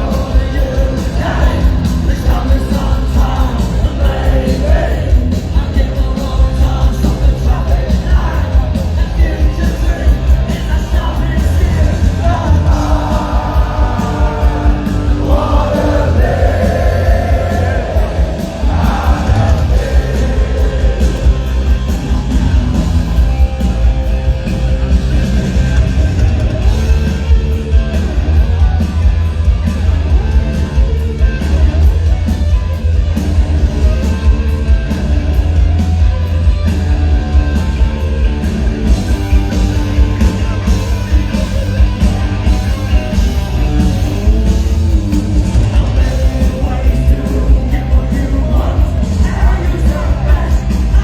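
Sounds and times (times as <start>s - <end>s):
punk rock band playing: 0.0s - 51.0s.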